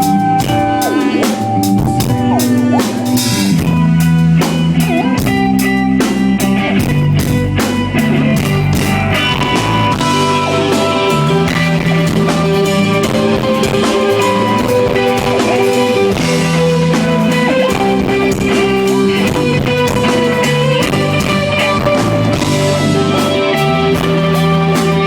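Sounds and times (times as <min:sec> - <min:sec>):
drums: 0:00.0 - 0:25.0
electric guitar: 0:00.0 - 0:25.0
live band playing: 0:00.0 - 0:25.0.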